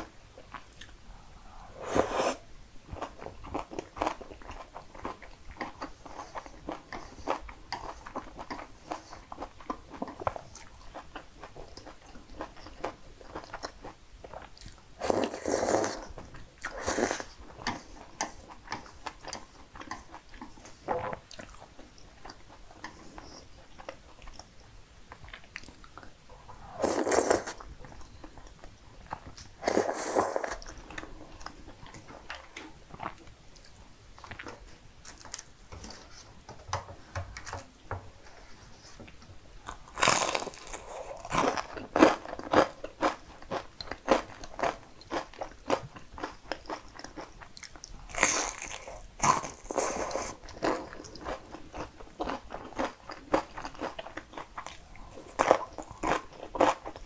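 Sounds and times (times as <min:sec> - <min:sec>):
soft chewing: 0:00.0 - 0:57.0.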